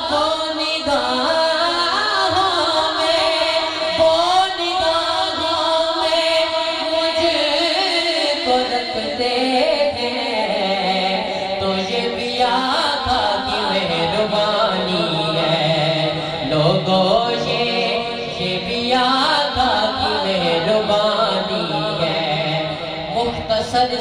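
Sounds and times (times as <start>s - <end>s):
man singing through microphone: 0.0s - 24.0s.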